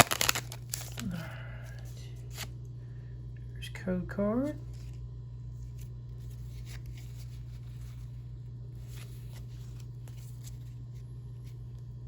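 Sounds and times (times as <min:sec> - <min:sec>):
trading cards rustling and clicking: 0:00.0 - 0:02.5, 0:04.4 - 0:12.0
steady low hum: 0:00.0 - 0:12.0.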